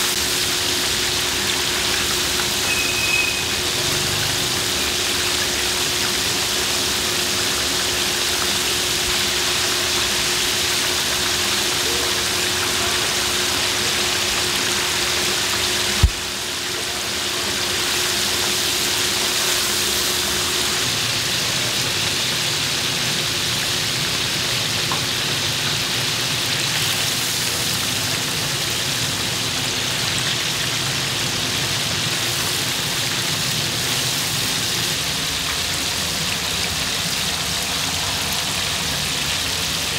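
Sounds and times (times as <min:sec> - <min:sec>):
oil sizzling and bubbling: 0:00.0 - 0:39.9.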